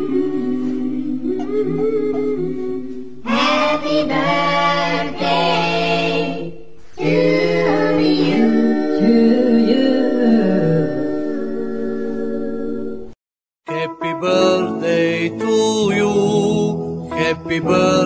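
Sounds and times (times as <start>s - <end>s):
unaccompanied choral singing: 0.0s - 13.1s, 13.7s - 18.0s.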